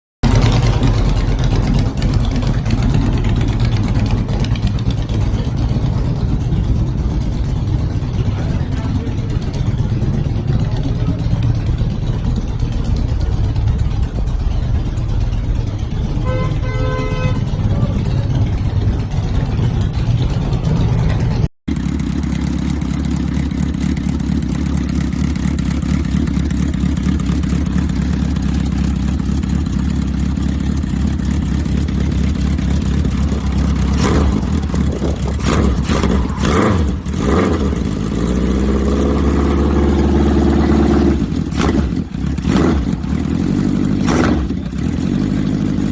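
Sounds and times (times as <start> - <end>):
motorcycle engine idling: 0.2 - 45.9
motorcycle engine running: 0.2 - 45.9.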